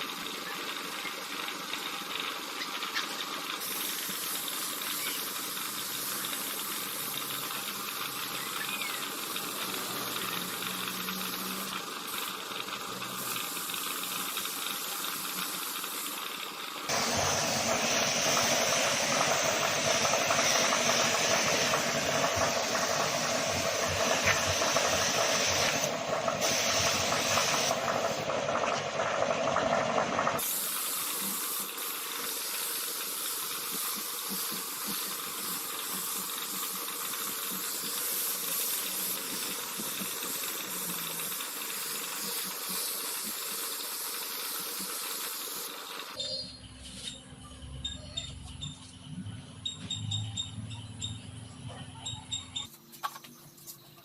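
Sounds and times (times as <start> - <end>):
compressed air hissing from spray tool: 0.8 - 28.2, 30.4 - 46.2.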